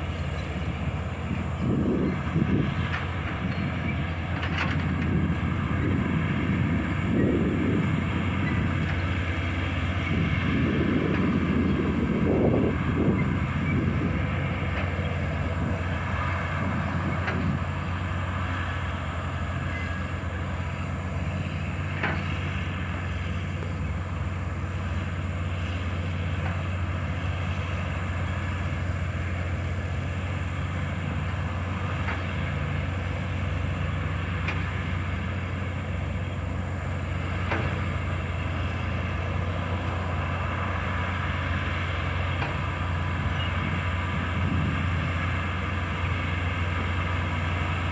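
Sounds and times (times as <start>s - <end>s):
bulldozer diesel engine droning: 0.0s - 47.9s.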